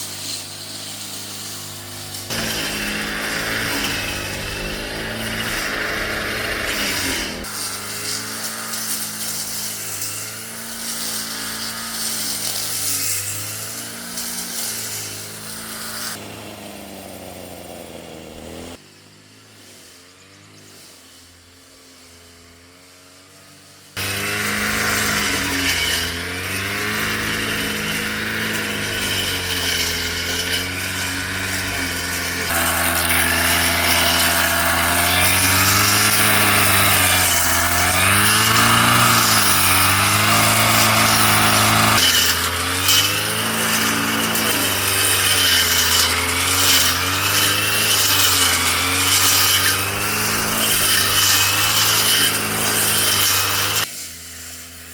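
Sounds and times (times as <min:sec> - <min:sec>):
brush cutter engine cutting weeds: 0:00.0 - 0:54.9.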